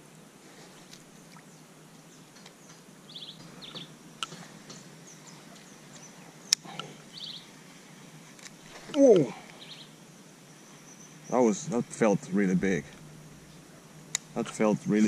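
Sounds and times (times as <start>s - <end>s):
birds chirping: 1.1s - 15.0s.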